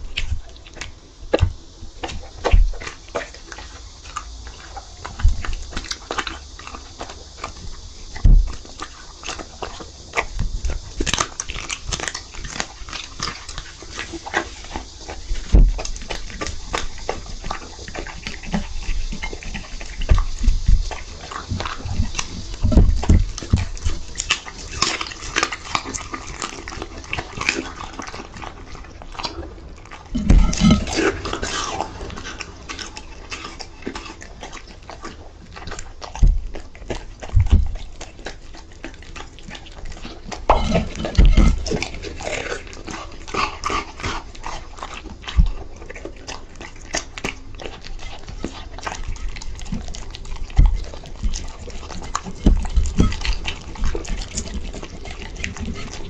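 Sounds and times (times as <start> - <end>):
dog chewing wetly: 0.0 - 56.0.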